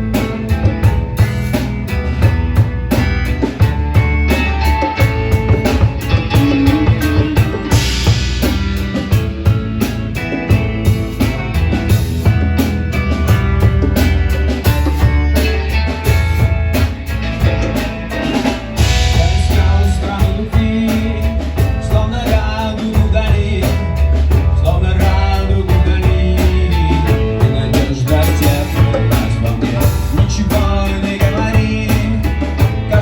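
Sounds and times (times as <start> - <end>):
drum kit beat: 0.0 - 33.0
heavy bass: 0.0 - 33.0
rock band playing: 0.0 - 33.0.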